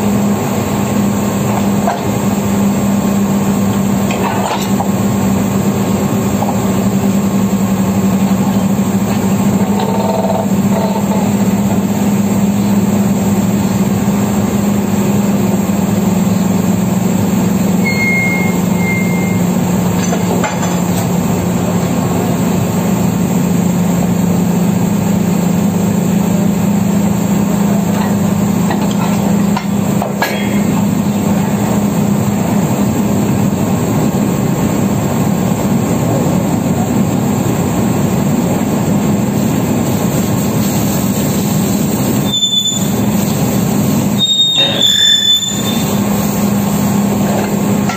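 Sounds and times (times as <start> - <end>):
constant low hum: 0.0 - 47.9
drilling rig machinery rumble: 0.0 - 47.9.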